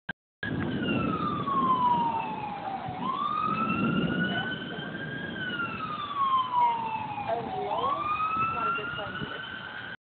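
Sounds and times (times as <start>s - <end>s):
low rumbling noise: 0.4s - 9.4s
siren wailing: 0.4s - 10.0s.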